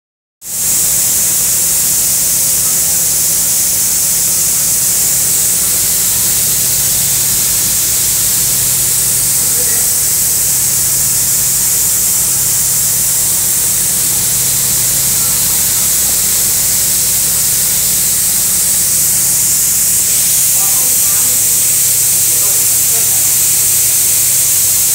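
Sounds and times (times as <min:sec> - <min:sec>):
loud high-pitched hiss: 0:00.4 - 0:24.9.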